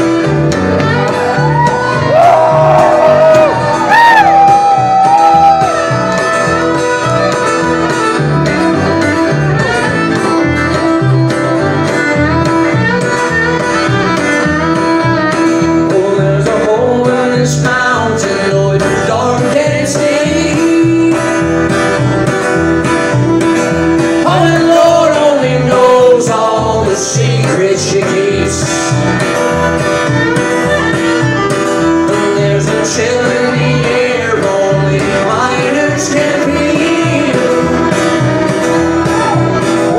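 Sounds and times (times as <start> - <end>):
fiddle playing: 0.0 - 17.0, 21.4 - 26.2, 27.9 - 39.9
acoustic guitar strumming: 0.0 - 39.9.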